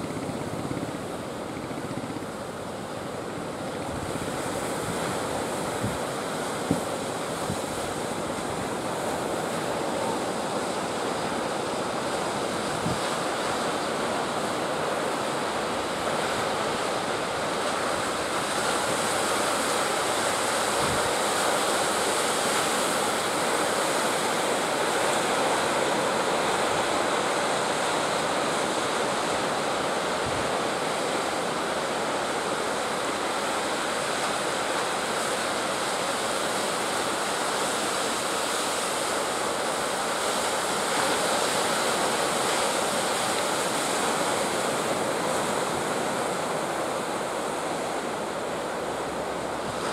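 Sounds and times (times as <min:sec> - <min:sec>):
surf breaking on beach: 0:03.7 - 0:49.9.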